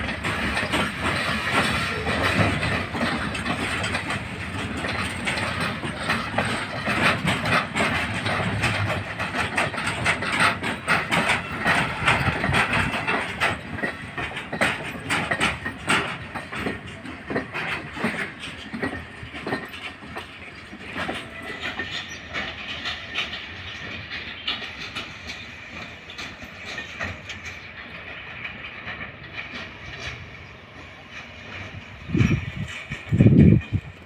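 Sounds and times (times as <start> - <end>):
train wheels clattering over rail joints: 0.0 - 34.0.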